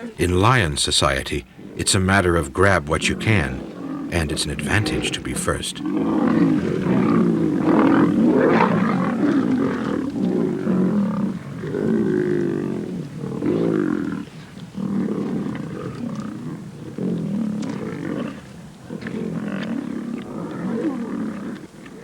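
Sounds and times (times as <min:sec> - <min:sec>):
lions snarling and growling: 0:00.0 - 0:22.0.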